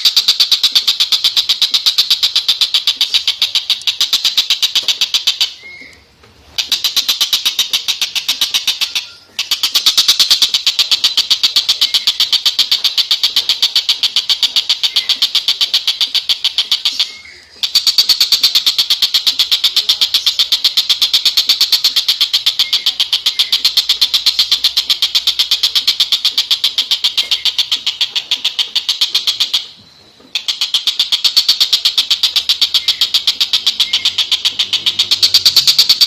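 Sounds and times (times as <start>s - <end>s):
kingfisher rattling call: 0.0s - 36.0s.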